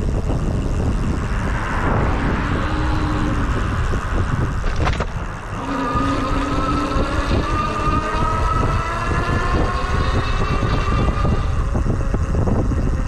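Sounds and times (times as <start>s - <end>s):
faint rising whine: 0.0s - 13.0s
wind and road rumble: 0.0s - 13.0s.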